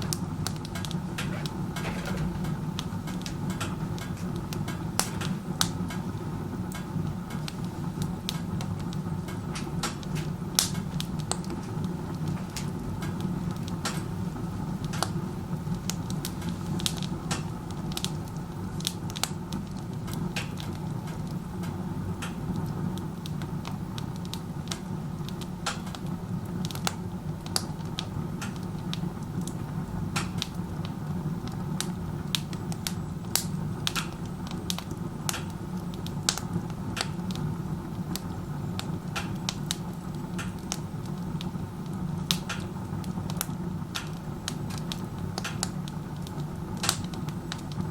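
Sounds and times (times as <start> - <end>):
low roar of chimney draft: 0.0 - 47.9
wood fire crackling and popping: 0.0 - 47.9.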